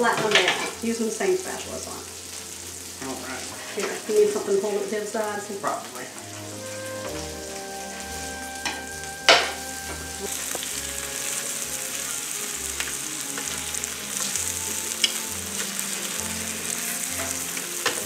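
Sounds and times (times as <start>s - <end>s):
food sizzling on a griddle: 0.0s - 18.0s.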